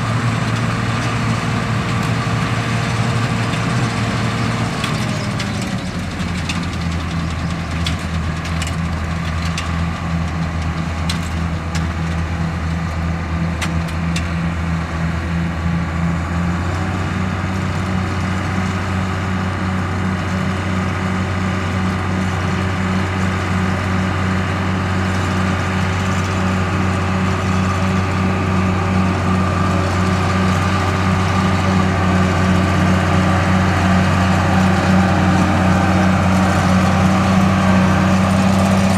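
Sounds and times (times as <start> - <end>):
combine diesel engine: 0.0 - 38.9
threshing machinery running: 0.0 - 38.9.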